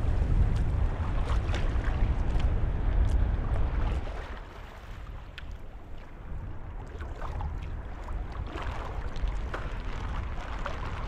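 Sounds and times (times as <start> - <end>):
sea noise: 0.0 - 11.0
wind rumbling on microphone: 0.0 - 11.0.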